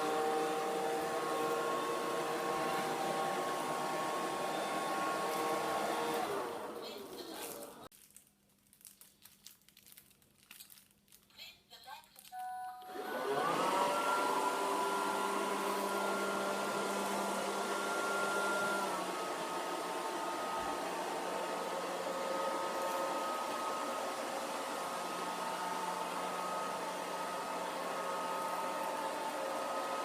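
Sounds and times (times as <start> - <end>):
robot vacuum whine: 0.0 - 7.8, 12.8 - 30.0.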